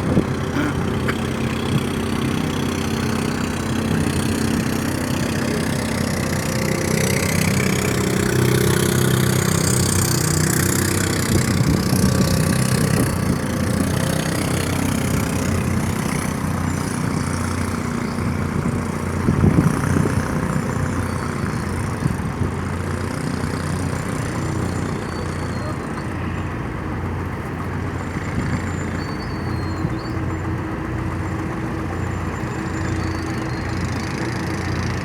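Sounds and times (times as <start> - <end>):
boat diesel engine humming: 0.0 - 35.0.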